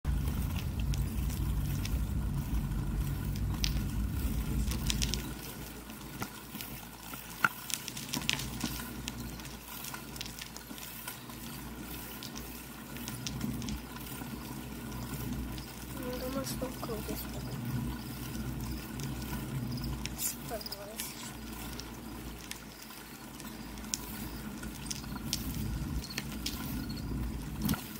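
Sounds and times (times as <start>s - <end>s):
bicycle tyre rumble on concrete: 0.0s - 27.9s
small clicks and rattles: 0.1s - 27.9s.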